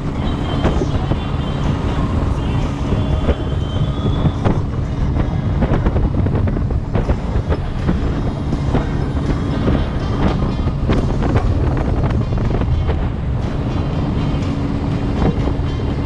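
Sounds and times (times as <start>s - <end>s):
hull slapping waves: 0.0s - 16.0s
motorboat engine rumbling: 0.0s - 16.0s.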